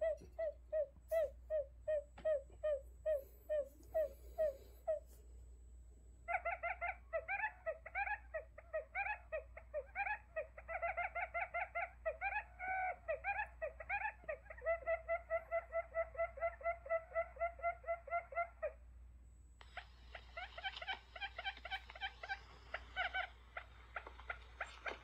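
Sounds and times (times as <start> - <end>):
quail calls: 0.0 - 5.1, 6.3 - 18.8, 19.6 - 25.0.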